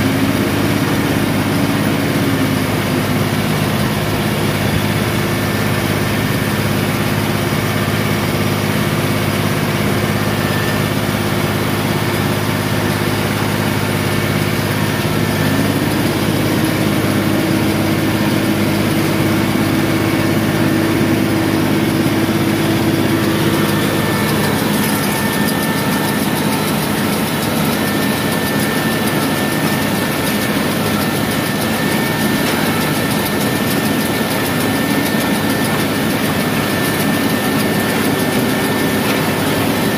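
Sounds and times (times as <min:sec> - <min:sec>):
baler mechanical noise: 0:00.0 - 0:39.9
tractor engine running under load: 0:00.0 - 0:39.9.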